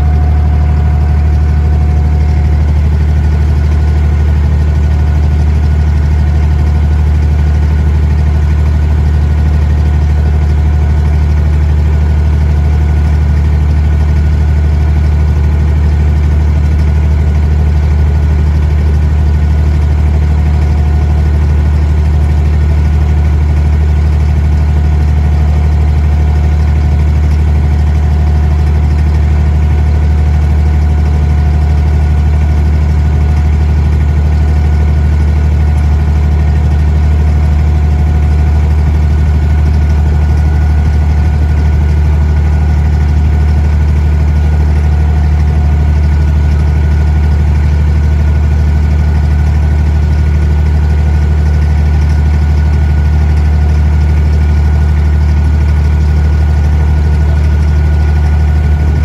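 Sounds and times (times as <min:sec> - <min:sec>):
boat diesel engine droning: 0:00.0 - 0:59.0.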